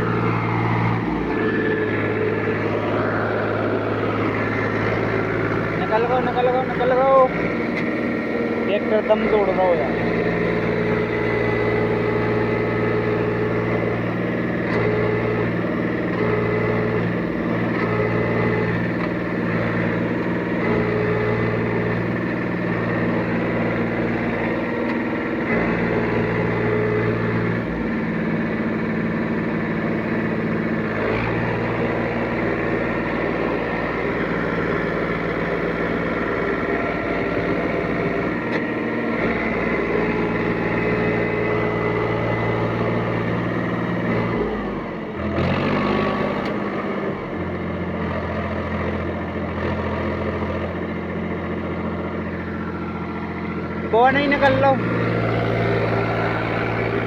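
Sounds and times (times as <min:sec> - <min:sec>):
tractor engine labouring: 0:00.0 - 0:57.0.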